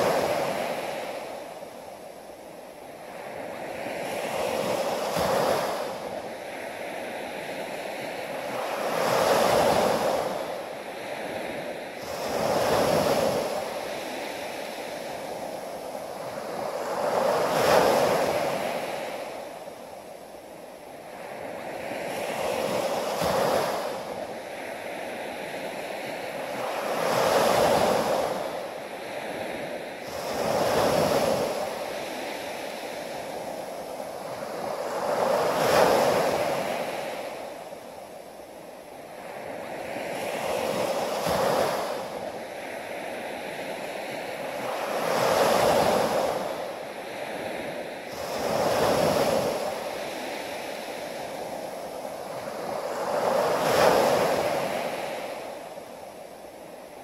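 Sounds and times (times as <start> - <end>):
small waves washing up a beach: 0.0 - 57.0.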